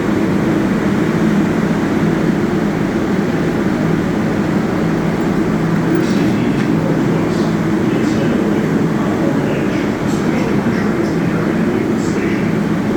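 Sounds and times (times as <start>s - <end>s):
subway motors humming: 0.0s - 12.9s.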